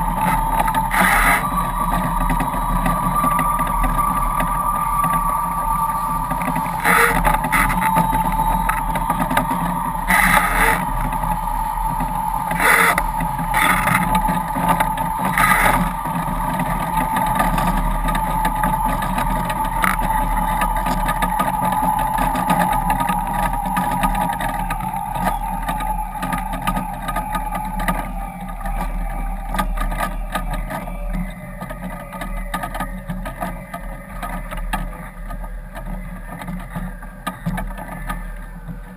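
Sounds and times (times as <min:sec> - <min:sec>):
high whine: 0:00.0 - 0:38.9.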